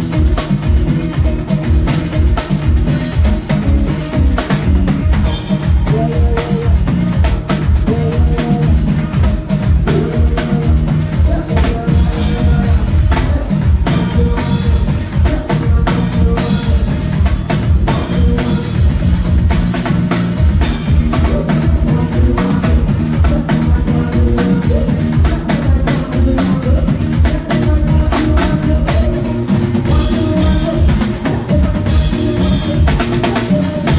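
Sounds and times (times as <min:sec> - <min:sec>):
bass line: 0:00.0 - 0:33.9
drum kit playing: 0:00.0 - 0:33.9
sustained keyboard or guitar notes: 0:00.0 - 0:33.9.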